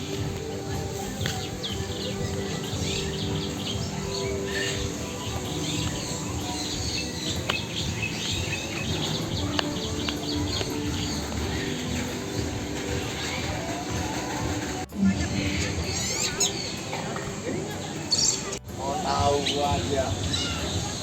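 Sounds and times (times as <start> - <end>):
low background music: 0.0 - 21.0
small birds chirping: 0.0 - 21.0.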